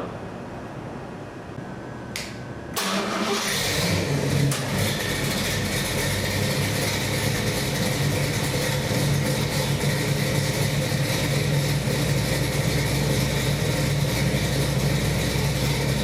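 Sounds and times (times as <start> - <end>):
car engine starting and idling: 2.7 - 16.0.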